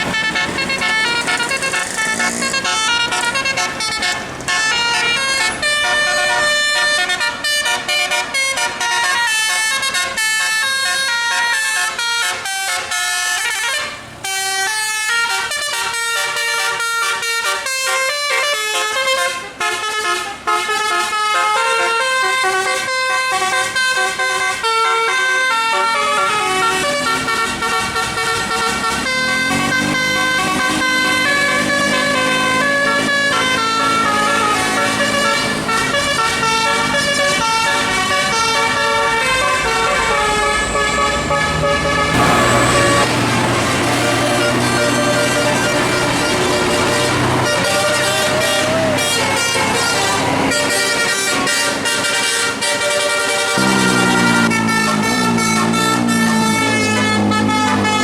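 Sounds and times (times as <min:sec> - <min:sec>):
musical air horn playing tune: 0:00.0 - 0:58.0.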